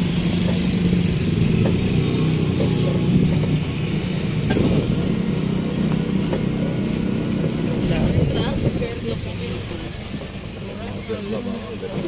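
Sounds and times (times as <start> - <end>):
tricycle motor and road noise: 0.0 - 12.0.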